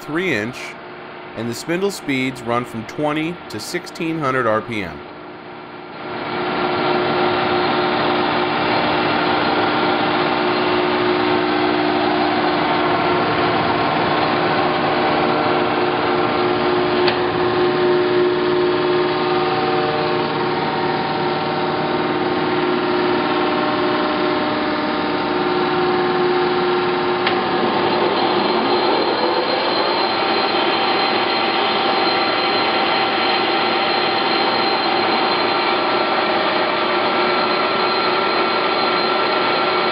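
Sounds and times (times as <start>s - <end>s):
lathe gears humming and whining: 5.9s - 39.9s.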